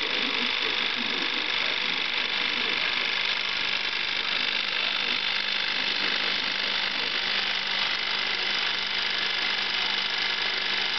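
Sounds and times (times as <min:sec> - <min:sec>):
film projector whirring: 0:00.0 - 0:10.9.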